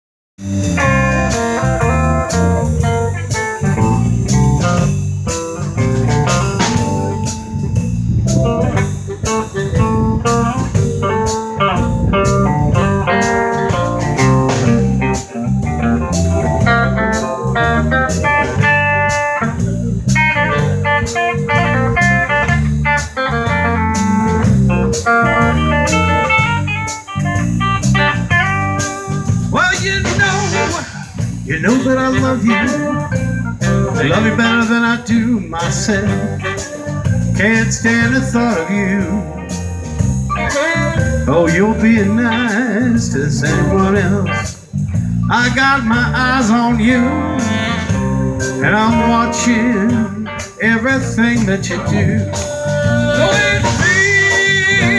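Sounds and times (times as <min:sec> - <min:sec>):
drum kit steady beat: 0:00.4 - 0:54.9
electric bass: 0:00.4 - 0:54.9
electric guitar: 0:00.4 - 0:54.9
keyboard: 0:00.4 - 0:54.9.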